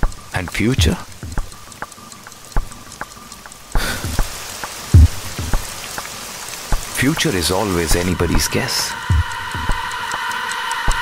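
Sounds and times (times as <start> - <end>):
clock ticking: 0.0 - 11.0
heavy rain: 0.0 - 11.0.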